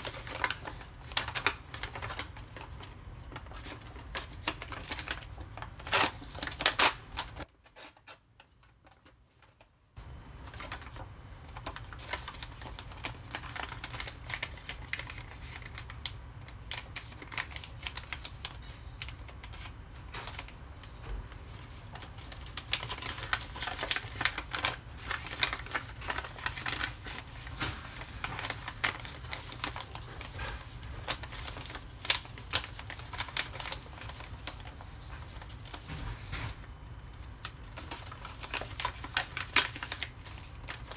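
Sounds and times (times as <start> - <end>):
paper folding rustles: 0.0 - 40.9.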